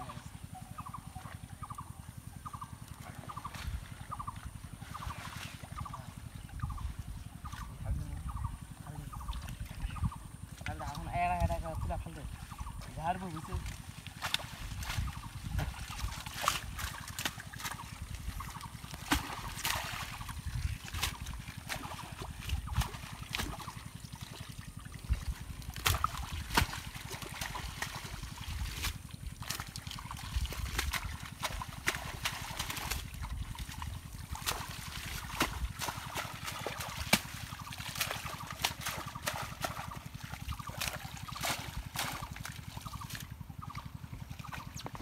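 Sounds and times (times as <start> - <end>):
water sloshing and trickling: 0.0 - 45.0.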